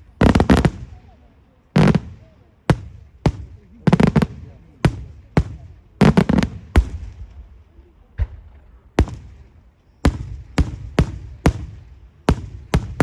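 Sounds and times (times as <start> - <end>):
fireworks bangs with echoes: 0.0 - 1.2, 1.8 - 13.0.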